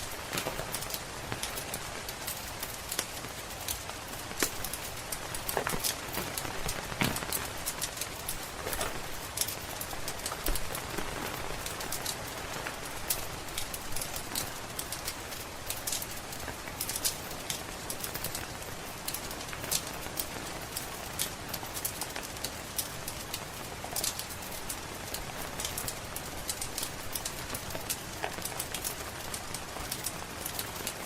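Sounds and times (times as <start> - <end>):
steady rain patter: 0.0 - 31.0
wood fire crackling: 0.0 - 31.0.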